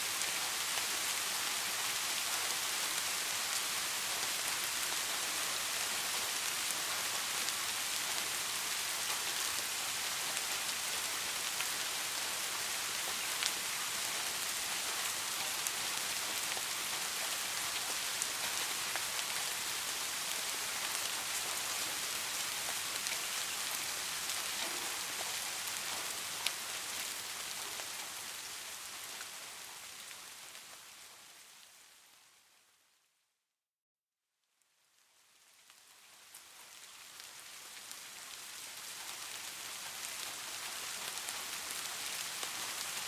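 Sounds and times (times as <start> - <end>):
rain falling: 0.0 - 32.6, 34.9 - 43.0.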